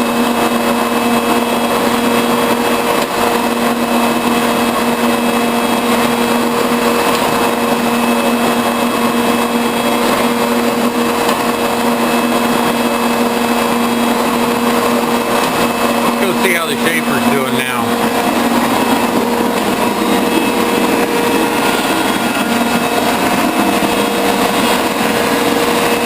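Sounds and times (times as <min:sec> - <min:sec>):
lathe running: 0:00.0 - 0:26.0.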